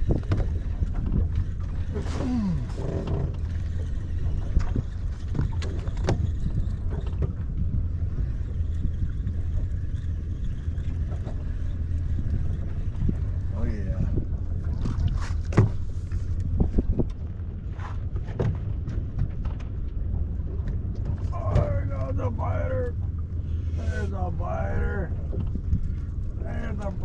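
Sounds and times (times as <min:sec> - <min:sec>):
boat engine rumble: 0:00.0 - 0:27.0.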